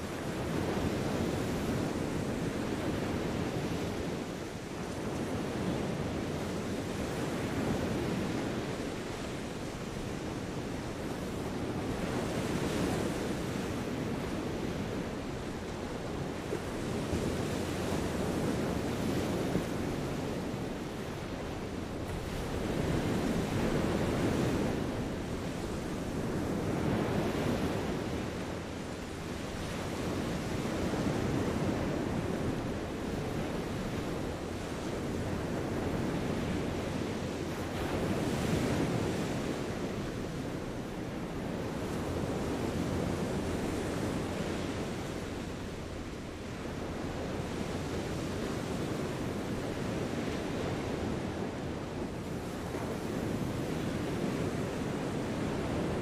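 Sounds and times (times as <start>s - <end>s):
small waves washing onto sand: 0.0s - 56.0s
wind on microphone: 0.0s - 56.0s.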